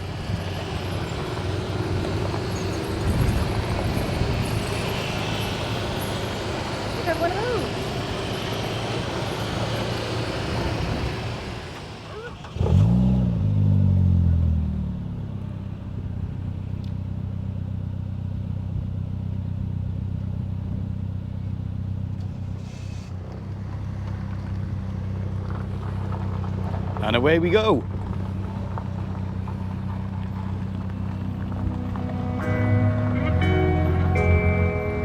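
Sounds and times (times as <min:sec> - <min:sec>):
motor trike engine starting and idling: 0:00.0 - 0:35.0.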